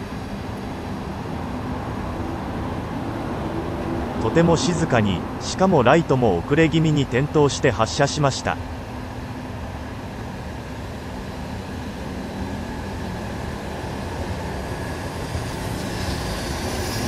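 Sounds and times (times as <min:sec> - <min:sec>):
electric locomotive hum: 0:00.0 - 0:17.0.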